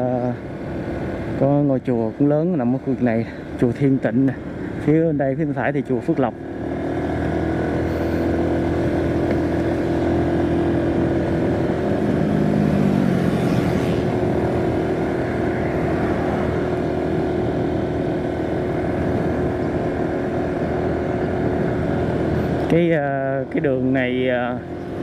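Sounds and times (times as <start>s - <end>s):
lower engine note: 0.0s - 25.0s
motorcycle engine cruising: 0.0s - 25.0s.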